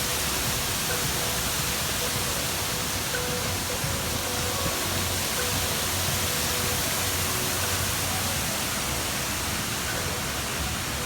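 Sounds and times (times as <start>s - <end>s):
rush of falling water: 0.0s - 11.0s.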